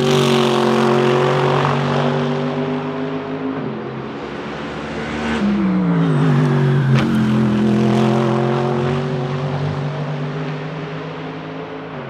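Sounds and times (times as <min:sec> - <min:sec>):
race car engine passing: 0:00.0 - 0:12.0.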